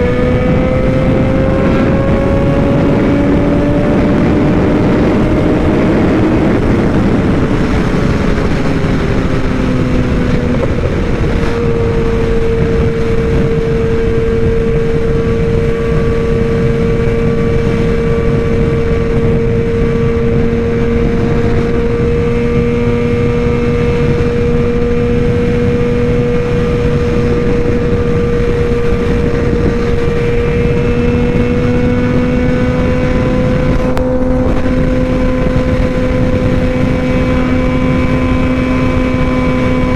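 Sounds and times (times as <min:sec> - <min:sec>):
motorcycle engine: 0:00.0 - 0:39.9
wind noise: 0:00.0 - 0:39.9.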